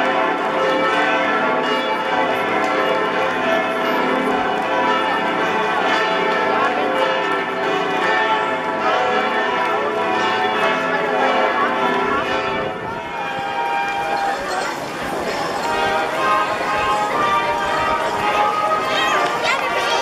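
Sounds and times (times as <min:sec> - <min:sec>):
church bells pealing: 0:00.0 - 0:20.0.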